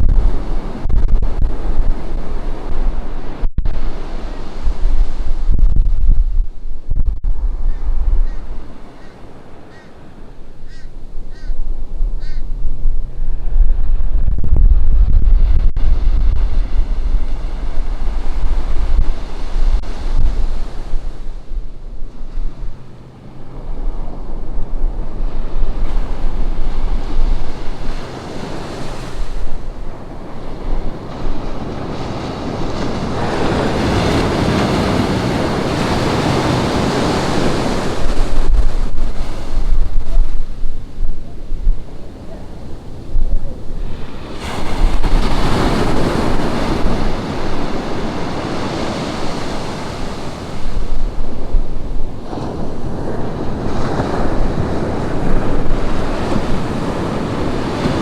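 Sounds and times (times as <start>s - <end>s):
ocean surf breaking: 0.0s - 6.7s, 7.3s - 58.0s
wind buffeting microphone: 0.0s - 58.0s.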